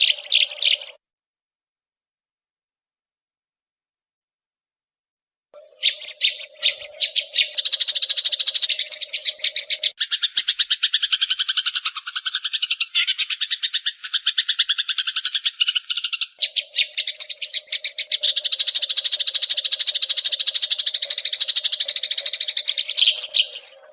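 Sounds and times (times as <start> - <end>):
songbird chattering trill: 0.0 - 1.0, 5.6 - 23.9.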